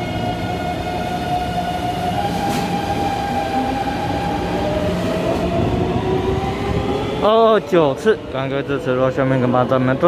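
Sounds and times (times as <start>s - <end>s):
steel wheels rumbling on rail: 0.0s - 10.0s.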